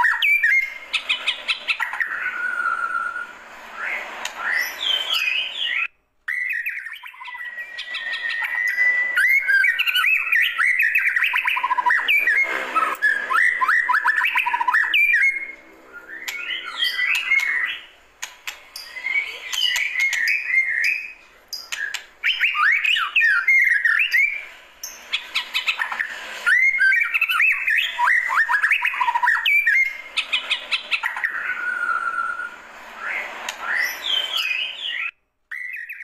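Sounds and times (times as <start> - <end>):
bird singing whistled notes: 0.0 - 17.9, 18.8 - 36.0.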